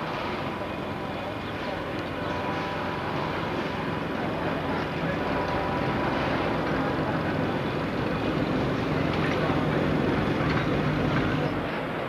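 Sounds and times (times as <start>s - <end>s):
electric tram running on rails: 0.0s - 12.0s.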